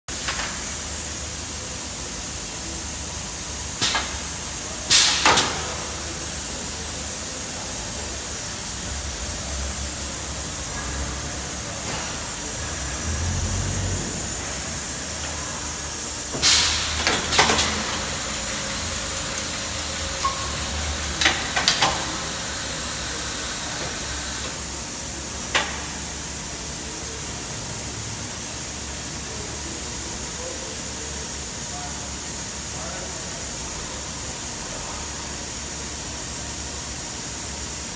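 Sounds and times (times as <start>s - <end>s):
machine hiss and hum: 0.1s - 37.9s.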